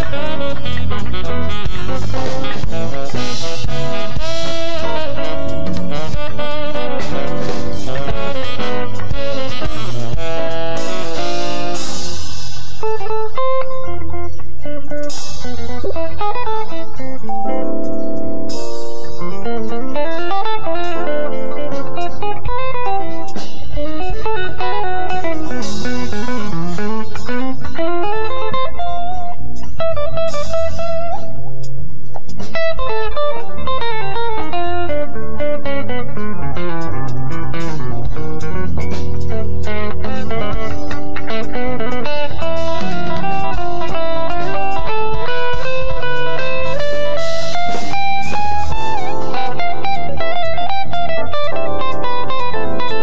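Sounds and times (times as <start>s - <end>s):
jazz band playing: 0.0s - 31.6s, 32.3s - 53.0s
drums: 0.0s - 53.0s
electric bass: 0.0s - 53.0s
electric guitar quick notes: 0.0s - 53.0s.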